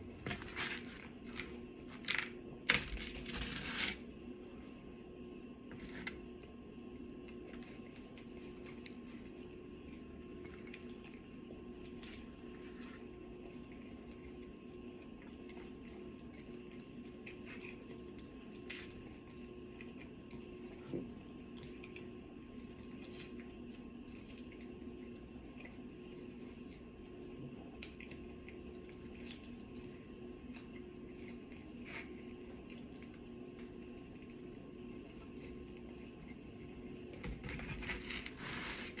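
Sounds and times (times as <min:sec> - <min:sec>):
steady low hum: 0:00.0 - 0:39.0
person chewing food: 0:05.7 - 0:39.0.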